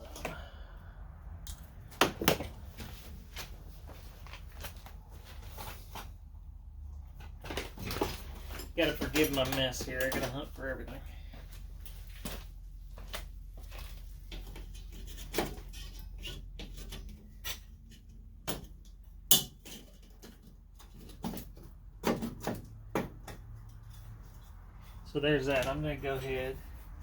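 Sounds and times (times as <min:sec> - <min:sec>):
rummaging among tools: 0:02.1 - 0:06.3, 0:07.0 - 0:18.8, 0:19.5 - 0:26.8.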